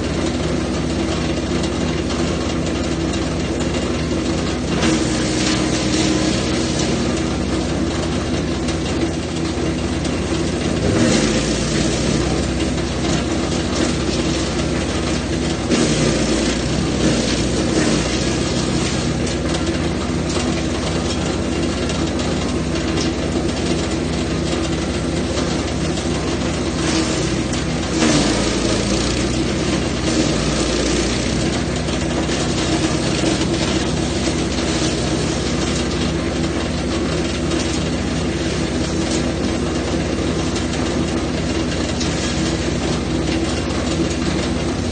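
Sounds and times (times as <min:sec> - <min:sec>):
wood chipper engine running: 0:00.0 - 0:44.9.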